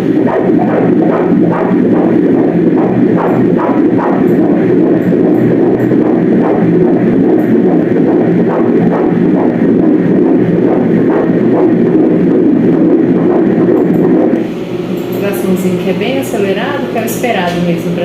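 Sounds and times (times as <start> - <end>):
fetal heartbeat on doppler: 0.0 - 15.0.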